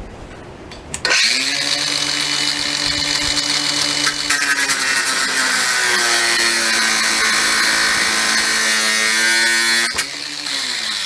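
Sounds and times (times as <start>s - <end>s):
angle grinder cutting steel: 1.1s - 11.0s
angle grinder winding down: 1.1s - 11.0s.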